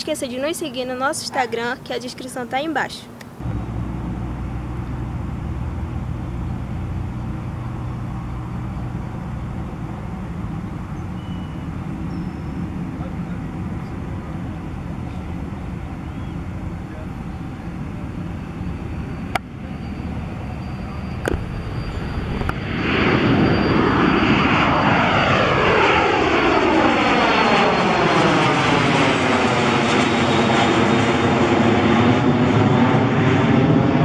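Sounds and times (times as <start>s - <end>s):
faint high jet whine: 0.0s - 34.0s
jet engines roaring: 0.0s - 34.0s.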